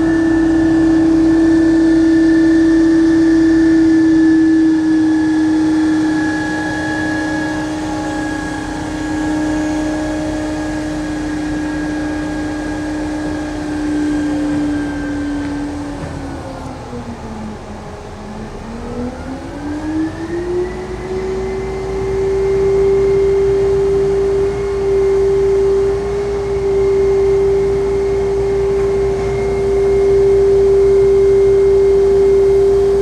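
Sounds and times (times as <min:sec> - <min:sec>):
crane engine whining: 0:00.0 - 0:33.0.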